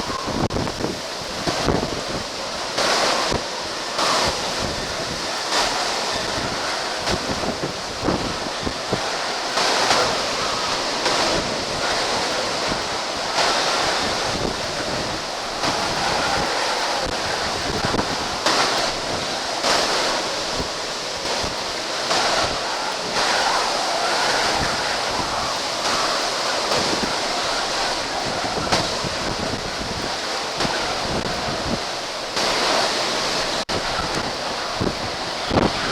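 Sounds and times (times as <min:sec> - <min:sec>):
driving rain: 0:00.0 - 0:35.9
storm winds gusting: 0:00.0 - 0:35.9
wind buffeting microphone: 0:00.0 - 0:35.9.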